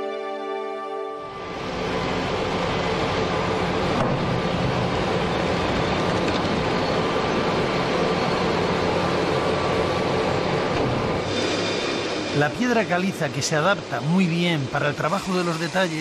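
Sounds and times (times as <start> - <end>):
heavy machinery din with low hum: 1.3 - 16.0.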